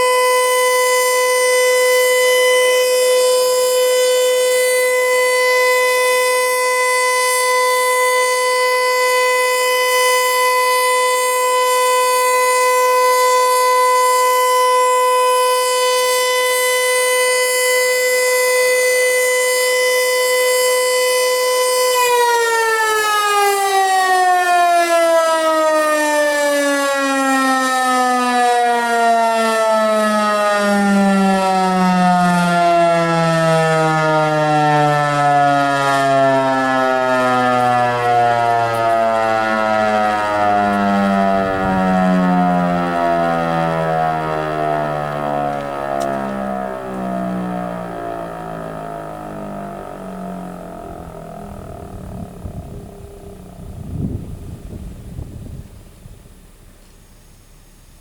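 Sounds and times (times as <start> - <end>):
warning siren winding down: 0.0 - 56.8.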